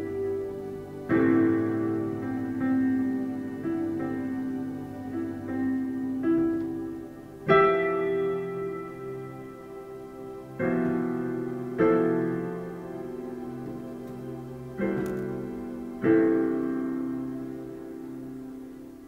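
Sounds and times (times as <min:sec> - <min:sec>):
slow gentle piano chords: 0:00.0 - 0:19.0.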